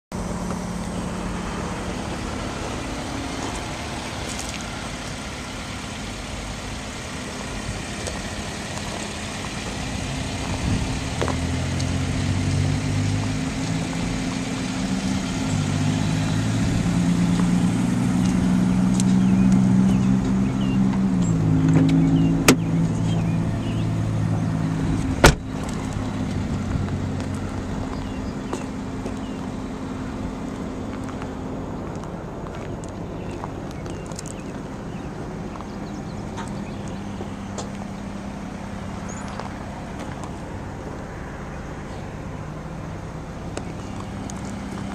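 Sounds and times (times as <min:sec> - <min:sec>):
car engine idling: 0:00.1 - 0:44.9.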